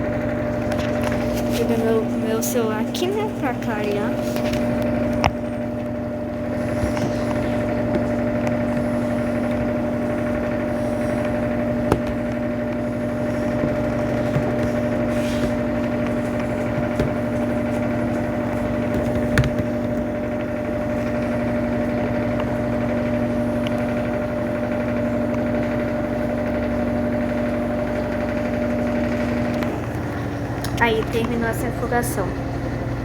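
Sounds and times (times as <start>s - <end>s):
washing machine spinning: 0.0s - 33.0s.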